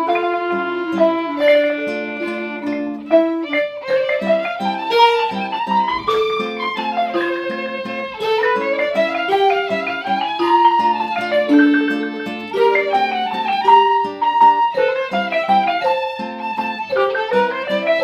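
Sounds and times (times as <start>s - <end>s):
bowed violin-like melody: 0.0s - 18.0s
plucked string notes: 0.0s - 18.0s.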